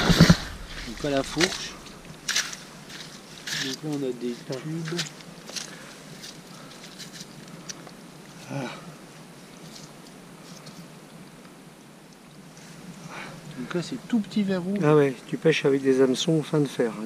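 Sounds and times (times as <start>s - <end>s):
faint crackles and scrapes: 0.0s - 15.2s.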